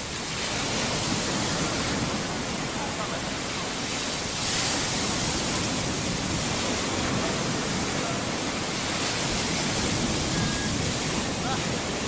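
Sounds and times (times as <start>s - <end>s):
waves washing on sand beach: 0.0s - 12.0s.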